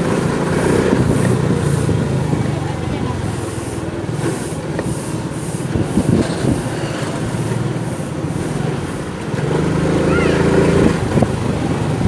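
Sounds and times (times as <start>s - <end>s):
motorcycle engine running: 0.0s - 12.0s
road noise: 0.0s - 12.0s
street traffic: 0.0s - 12.0s.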